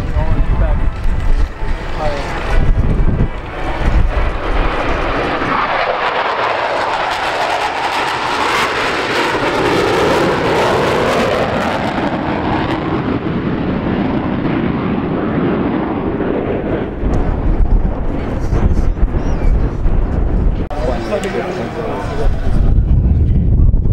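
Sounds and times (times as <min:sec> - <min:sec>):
jets flying past roaring: 0:00.0 - 0:23.9.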